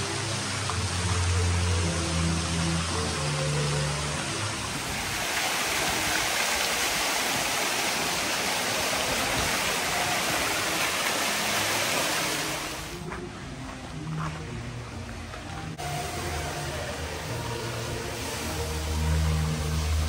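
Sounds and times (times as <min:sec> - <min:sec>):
fountain water splashing: 0:00.0 - 0:13.0, 0:15.7 - 0:20.0.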